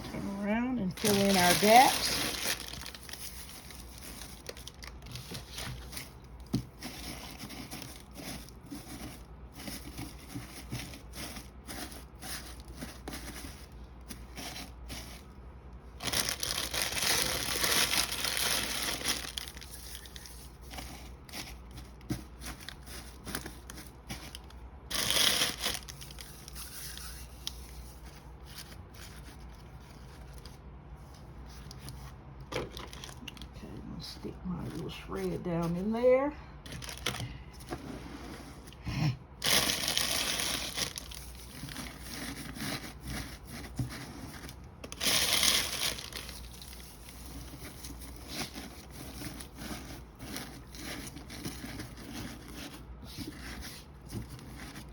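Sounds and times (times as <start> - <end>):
paper shred rustling and crinkling: 0.0 - 15.3, 16.0 - 30.6, 36.6 - 38.7, 39.4 - 54.9.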